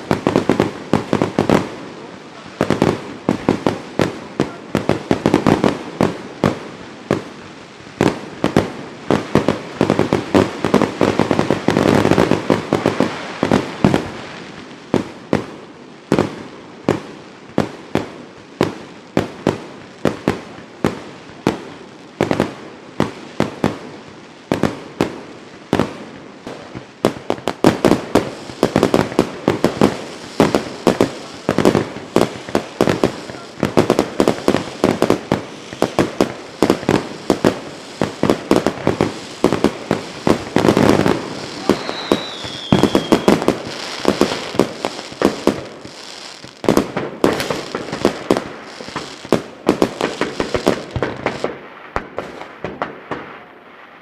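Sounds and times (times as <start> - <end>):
fireworks bangs and pops: 0.0 - 54.0.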